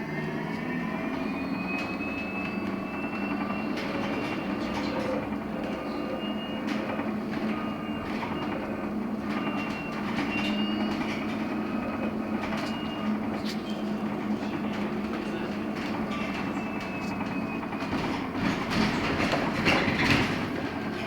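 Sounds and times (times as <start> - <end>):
electric bus drive hum: 0.0 - 21.0.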